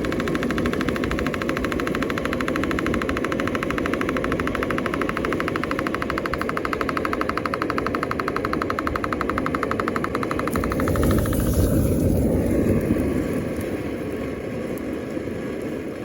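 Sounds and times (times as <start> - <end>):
ventilation fan clattering: 0.0 - 14.6.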